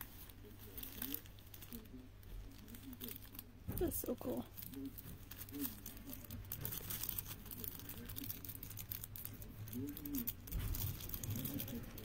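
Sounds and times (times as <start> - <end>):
plastic clicks and crinkling: 0.0 - 12.0
soft voice: 0.0 - 12.0.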